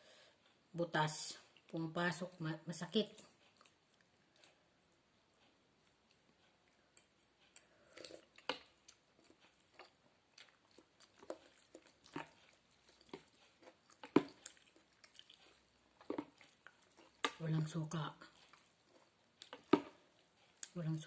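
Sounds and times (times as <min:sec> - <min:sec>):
smacking and chewing: 0:03.1 - 0:20.8.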